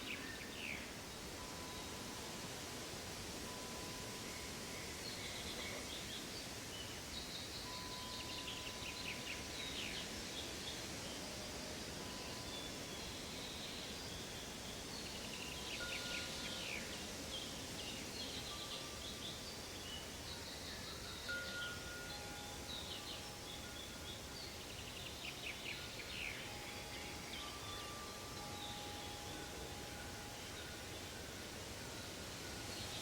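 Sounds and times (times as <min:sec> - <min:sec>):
steady hiss: 0:00.0 - 0:33.0
soft chime-like tones: 0:01.2 - 0:06.2, 0:07.4 - 0:33.0.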